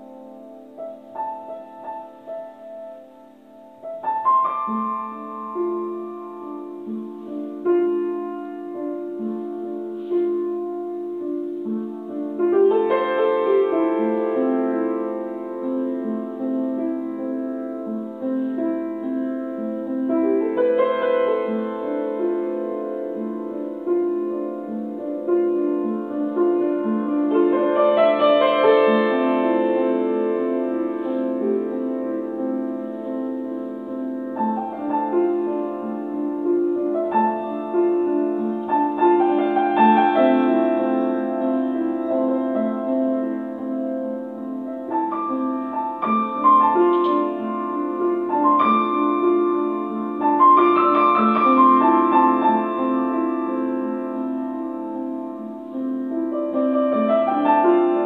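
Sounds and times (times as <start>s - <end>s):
upright piano playing: 0.0s - 58.0s.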